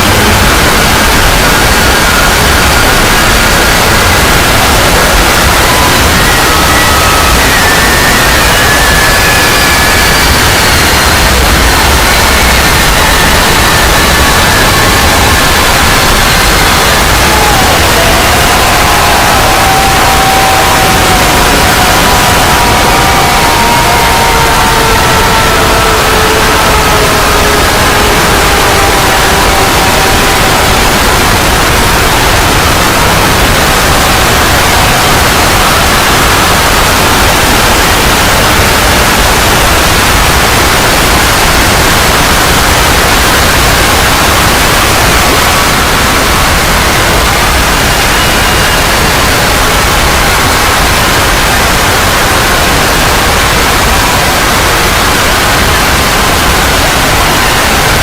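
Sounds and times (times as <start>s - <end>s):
harsh static noise: 0.0s - 58.0s.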